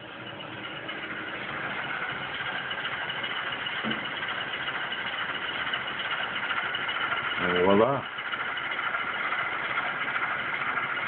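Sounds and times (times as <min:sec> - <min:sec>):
model locomotive diesel idle sound: 0:00.0 - 0:11.0.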